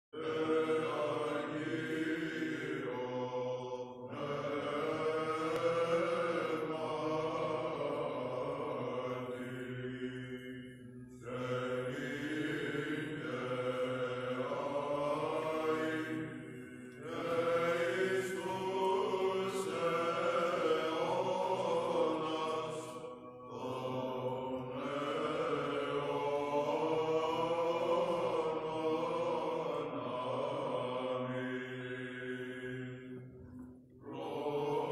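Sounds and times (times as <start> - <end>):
men chanting in echoing church: 0.1 - 34.9.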